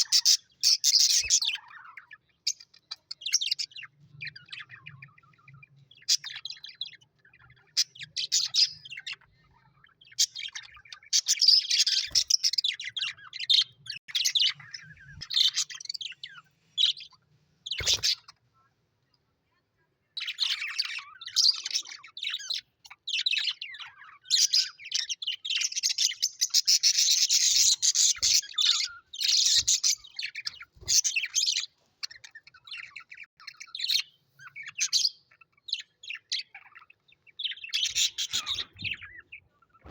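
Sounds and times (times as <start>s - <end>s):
parrots chirping and warbling: 0.0s - 18.7s, 20.1s - 39.9s.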